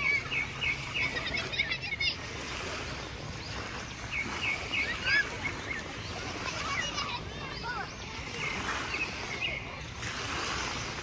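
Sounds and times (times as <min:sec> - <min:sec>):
birds chirping: 0:00.0 - 0:11.0
wind or surf noise: 0:00.0 - 0:11.0.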